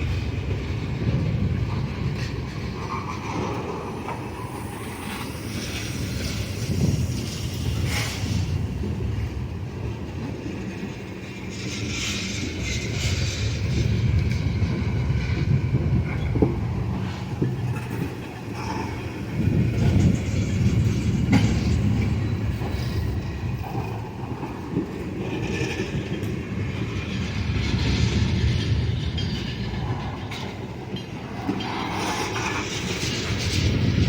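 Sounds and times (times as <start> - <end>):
freight train rumbling: 0.0 - 34.0
railcars rattling and knocking: 0.0 - 34.0.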